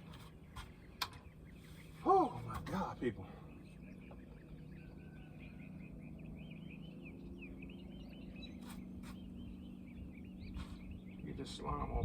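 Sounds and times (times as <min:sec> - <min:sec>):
faint birdsong chirping: 0:00.0 - 0:12.0
low steady hum: 0:00.0 - 0:12.0.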